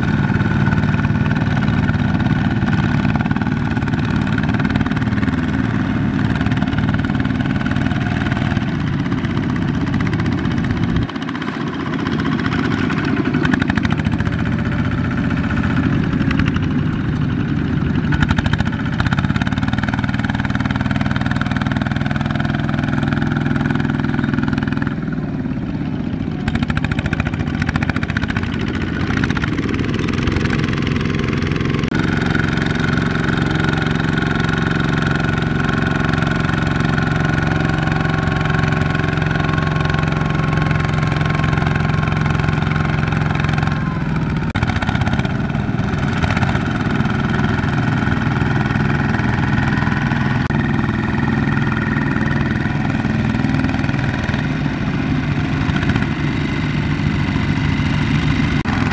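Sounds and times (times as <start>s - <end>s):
diesel tractor engines running: 0.0s - 58.9s.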